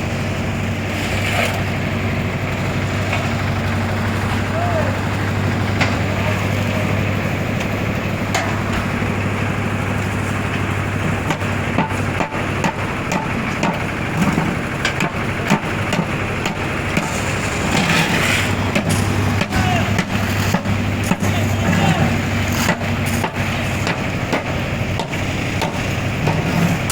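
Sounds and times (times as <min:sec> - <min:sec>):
low machine drone: 0:00.0 - 0:26.9.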